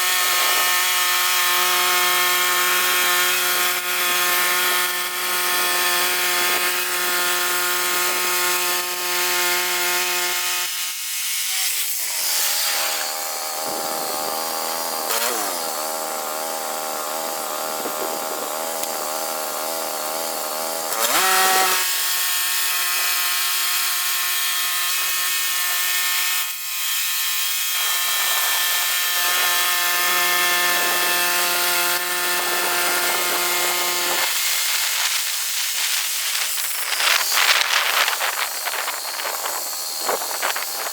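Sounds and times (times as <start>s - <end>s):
chainsaw cutting a log: 0.0s - 40.9s.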